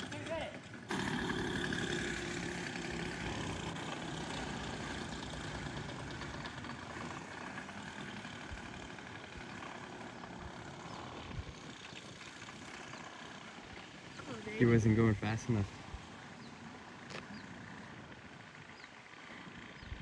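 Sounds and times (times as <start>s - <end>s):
small two-stroke engine running: 0.0s - 20.0s.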